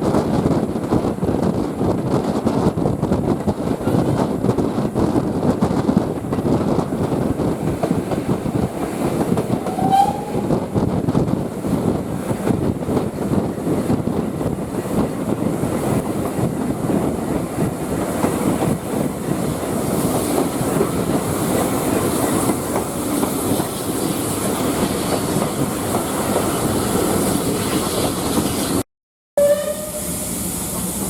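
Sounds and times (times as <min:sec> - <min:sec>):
train wheels clattering over rails: 0:00.0 - 0:28.8.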